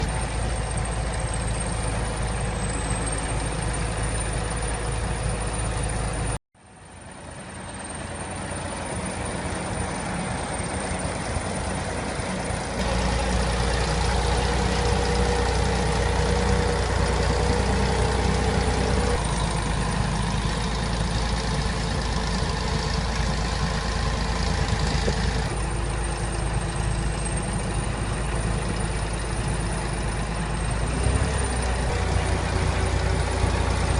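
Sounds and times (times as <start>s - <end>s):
heavy vehicle engines running: 0.0s - 33.9s.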